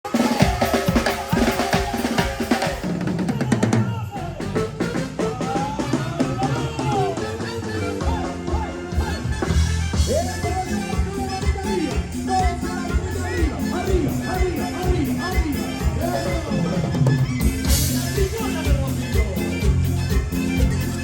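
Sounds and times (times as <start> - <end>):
band melody over bass and drums: 0.0 - 21.0
drum fill of snare and bass drum: 0.0 - 21.0.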